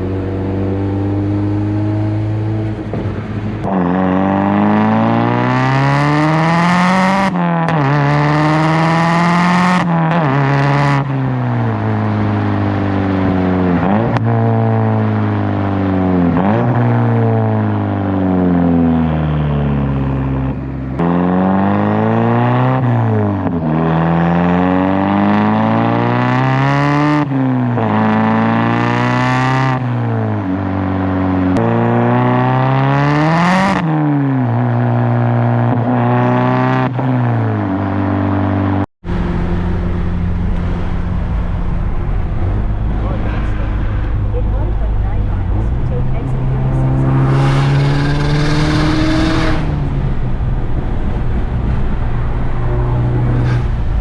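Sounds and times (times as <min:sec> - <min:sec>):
turbocharged car engine revving: 0:00.0 - 0:54.0.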